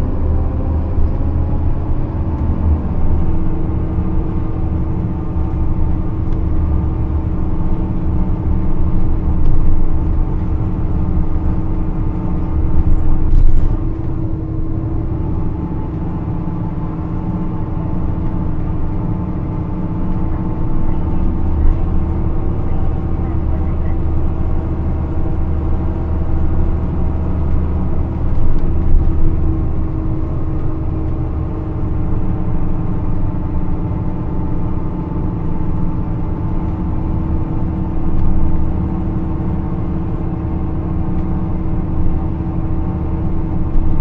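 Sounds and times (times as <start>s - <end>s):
bus diesel engine drone: 0.0s - 44.0s.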